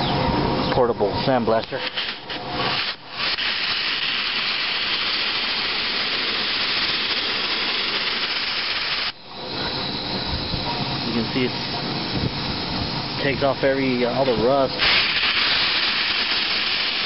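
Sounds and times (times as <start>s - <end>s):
sandblaster hissing: 1.3s - 17.0s.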